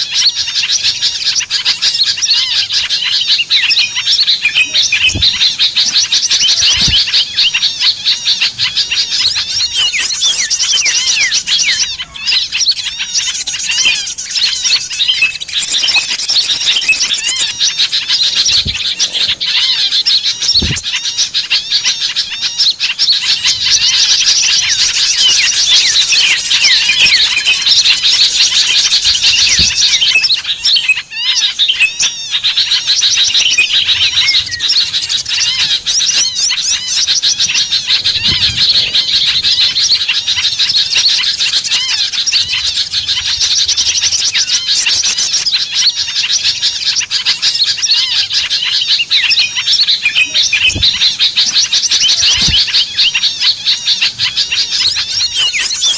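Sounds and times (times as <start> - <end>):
small birds chirping in chorus: 0.0 - 55.9.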